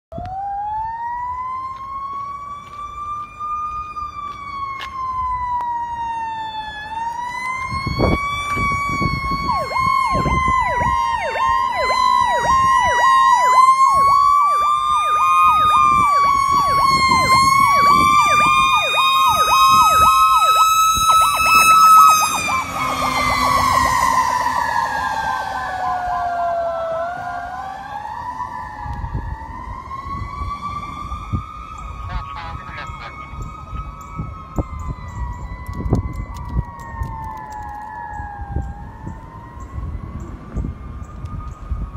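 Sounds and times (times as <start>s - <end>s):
siren slow wail: 0.1s - 41.9s
fast-repeating siren tone: 2.8s - 27.2s, 29.0s - 41.9s.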